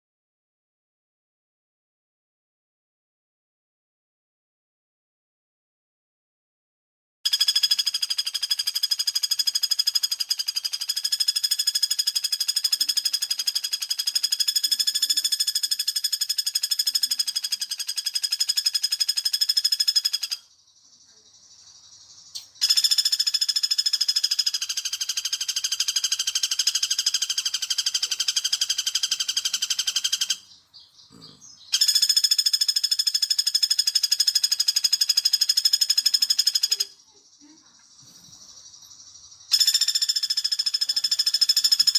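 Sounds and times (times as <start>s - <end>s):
woodpecker rattling trill: 7.3s - 41.9s.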